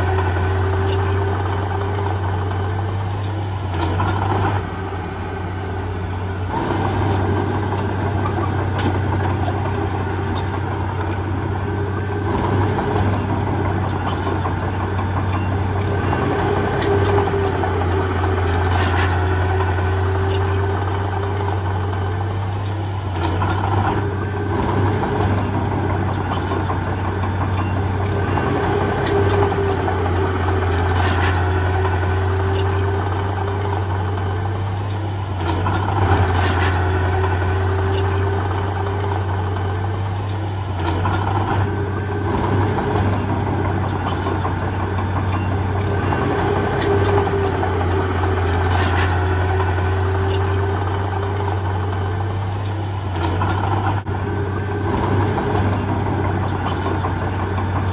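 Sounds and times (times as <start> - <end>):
heavy diesel engine running: 0.0 - 57.9.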